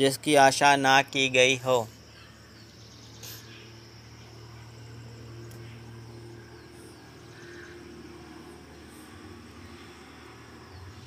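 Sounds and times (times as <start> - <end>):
low hum: 1.9 - 11.0.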